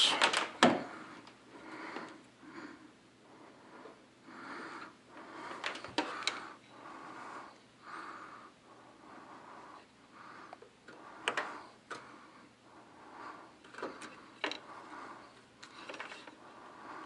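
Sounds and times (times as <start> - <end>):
person breathing: 0.0 - 17.0.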